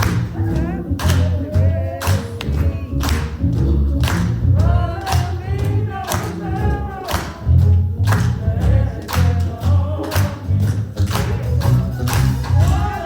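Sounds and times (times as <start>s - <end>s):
heavy bass line: 0.0s - 13.0s
sharp percussion hits: 0.0s - 13.0s
voices singing gospel: 0.0s - 13.0s.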